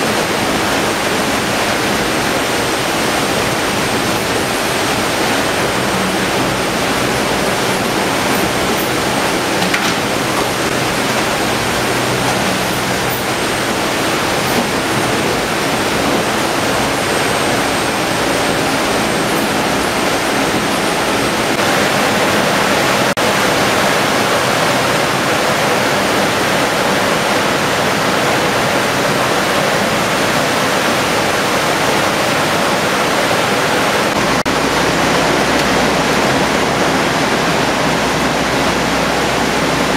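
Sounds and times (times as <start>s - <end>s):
machinery running: 0.0s - 39.9s
thin high whine: 0.0s - 39.9s
water rushing through chutes: 0.0s - 39.9s.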